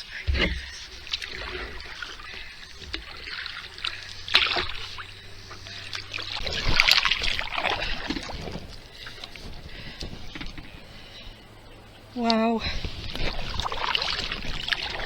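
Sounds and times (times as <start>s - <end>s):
kayak paddle strokes in water: 0.0s - 15.0s
water dripping off paddle: 0.0s - 15.0s.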